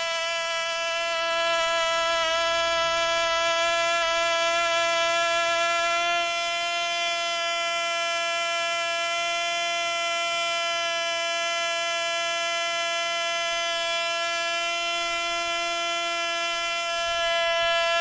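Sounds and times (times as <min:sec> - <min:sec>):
model engine high-pitched whine: 0:00.0 - 0:18.0.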